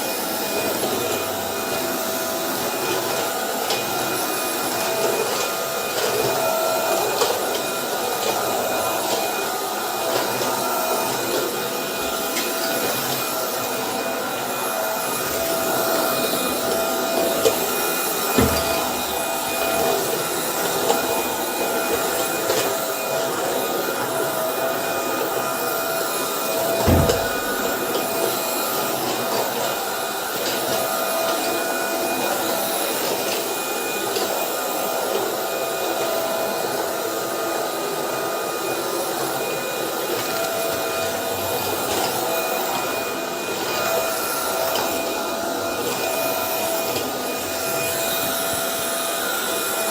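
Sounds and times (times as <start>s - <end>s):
floor vacuum whirring: 0.0s - 49.9s.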